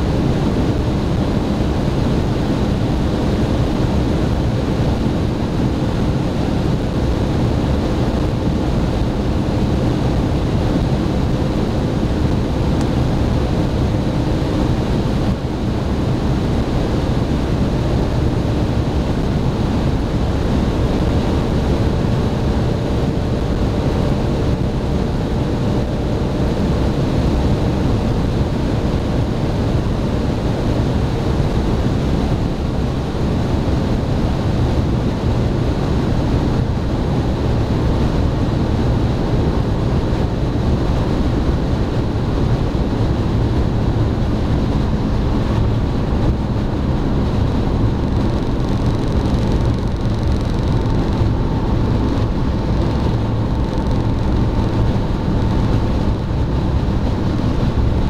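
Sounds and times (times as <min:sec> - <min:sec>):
low diesel engine drone: 0:00.0 - 0:58.0
road and wind noise in car: 0:00.0 - 0:58.0.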